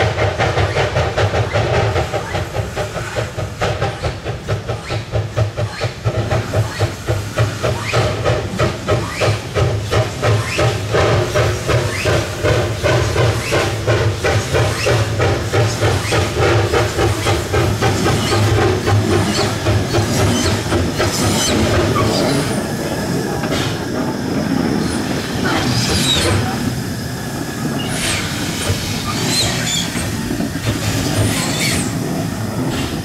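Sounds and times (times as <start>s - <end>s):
steam locomotive exhaust beating: 0.0s - 33.0s
train running rumble: 0.0s - 33.0s
wheels squealing on rails: 0.0s - 33.0s.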